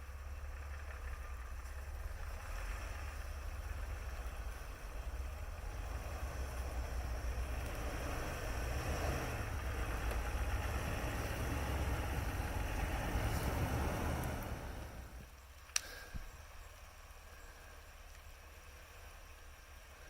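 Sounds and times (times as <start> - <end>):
car engine running at low speed: 0.0 - 20.0.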